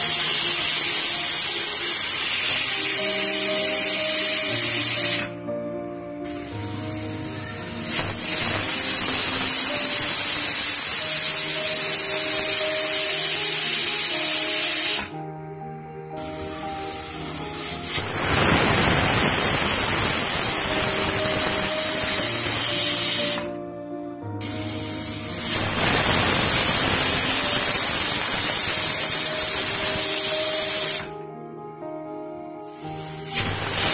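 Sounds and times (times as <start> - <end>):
pressure cooker whistle hissing: 0.0 - 5.5, 6.2 - 15.2, 16.1 - 23.6, 24.4 - 31.2, 32.6 - 33.9.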